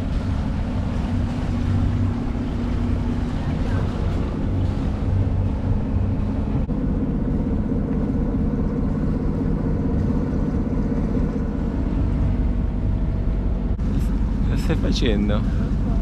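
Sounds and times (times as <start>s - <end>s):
boat diesel engine droning: 0.0s - 16.0s.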